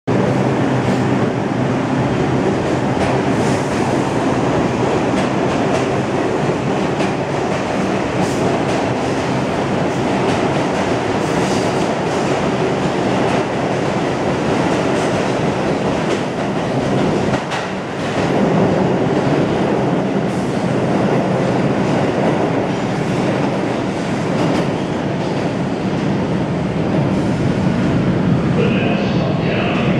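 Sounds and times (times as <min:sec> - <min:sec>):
subway trains rumbling: 0:00.0 - 0:29.9.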